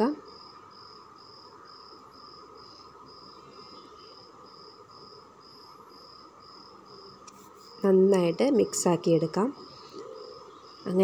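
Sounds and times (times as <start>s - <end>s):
cricket chirping: 0.0s - 11.0s
faint background hum: 0.0s - 11.0s.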